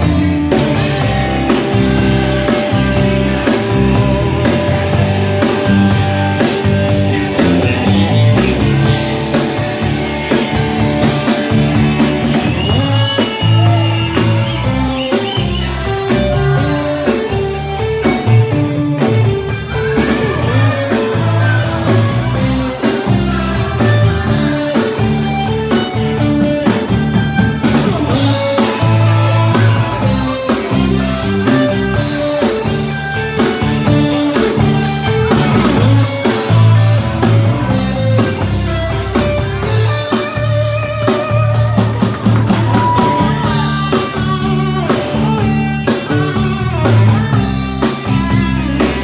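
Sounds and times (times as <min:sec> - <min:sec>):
drum kit: 0:00.0 - 0:49.0
electric bass: 0:00.0 - 0:49.0.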